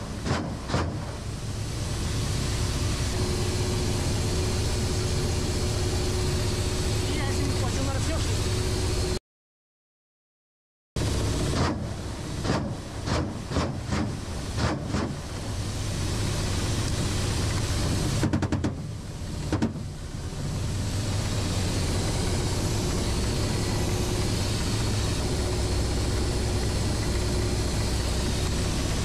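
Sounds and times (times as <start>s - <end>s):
helicopter engines and rotor: 0.0s - 9.2s, 11.0s - 29.0s.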